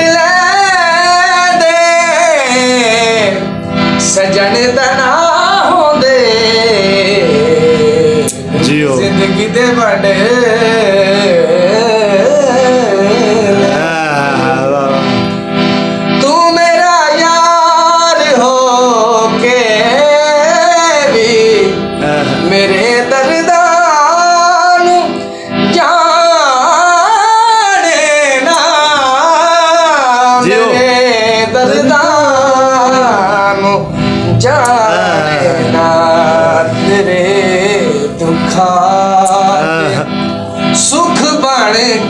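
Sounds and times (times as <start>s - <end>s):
harmonium holding steady tones: 0.0s - 42.0s
man singing: 0.0s - 42.0s.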